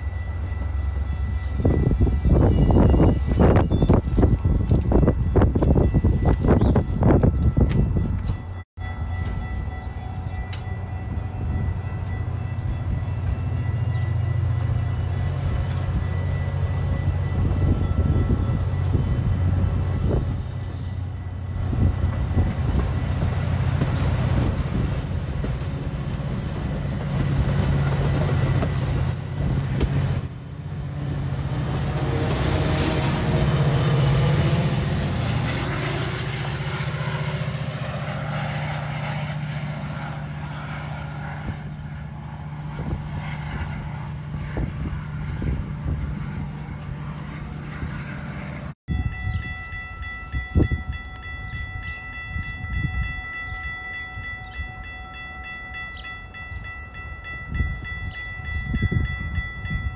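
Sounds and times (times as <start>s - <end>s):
diesel locomotive hum: 0.0s - 59.9s
train wheels on rails: 0.0s - 59.9s.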